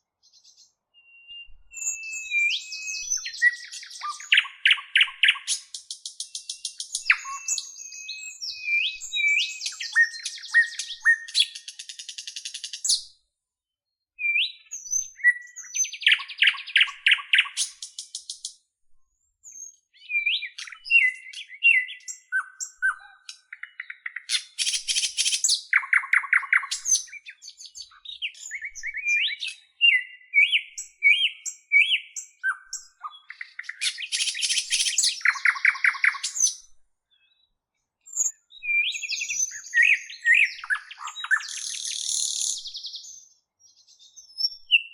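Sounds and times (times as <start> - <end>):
birdsong chirps and trills: 0.1 - 13.2, 14.2 - 44.9.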